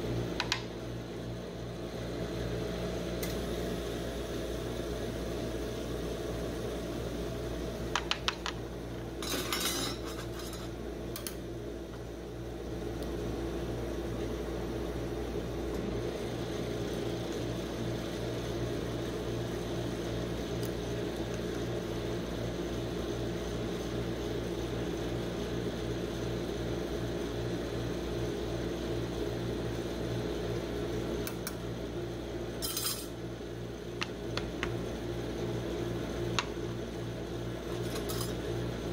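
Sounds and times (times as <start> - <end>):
refrigeration unit humming: 0.0 - 38.9.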